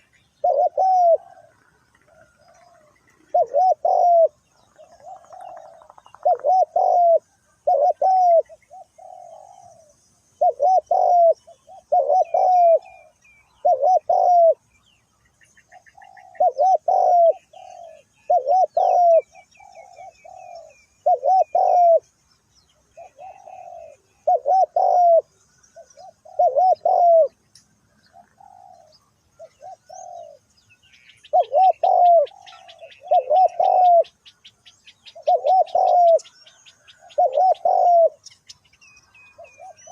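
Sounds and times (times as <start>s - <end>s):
dove cooing: 0.0s - 14.7s, 15.6s - 22.1s, 22.8s - 27.4s, 28.0s - 30.5s, 31.1s - 38.4s, 39.2s - 39.9s
small birds chirping: 0.0s - 39.9s.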